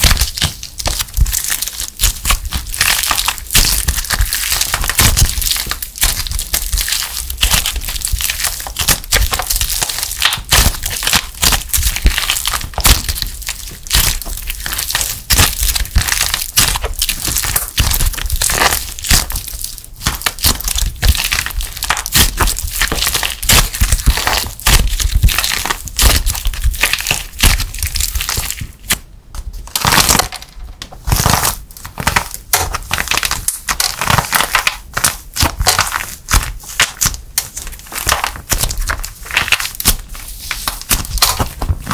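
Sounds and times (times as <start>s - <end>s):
dried plaster crackling and crunching: 0.0s - 41.9s.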